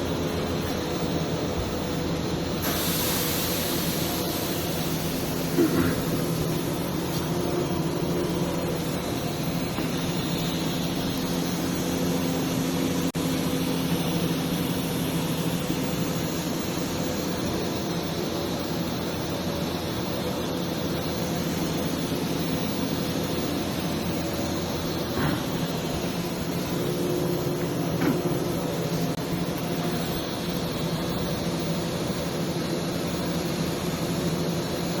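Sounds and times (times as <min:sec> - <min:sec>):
electrical hum: 0:00.0 - 0:34.6
welding arc hiss: 0:00.1 - 0:35.0.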